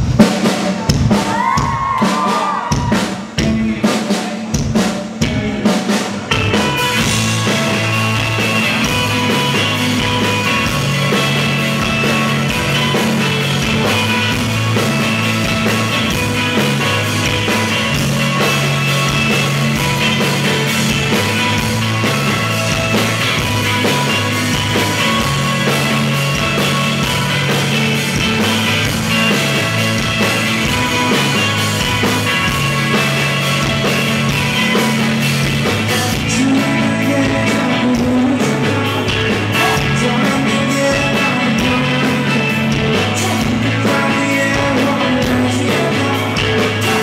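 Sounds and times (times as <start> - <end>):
live rock band playing: 0.0 - 47.0.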